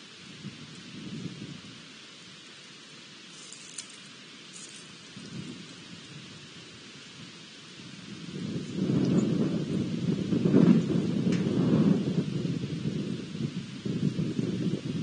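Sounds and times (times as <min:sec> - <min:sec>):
wind rumbling on microphone: 0:00.0 - 0:02.5, 0:03.3 - 0:15.0
steady hiss: 0:00.0 - 0:15.0.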